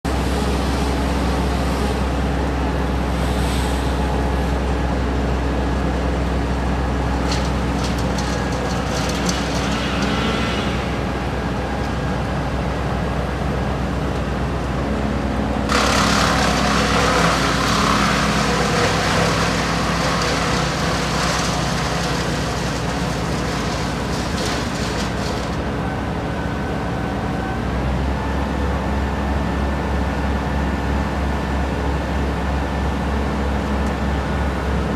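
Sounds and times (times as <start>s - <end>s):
heavy vehicle engine humming: 0.0s - 34.9s.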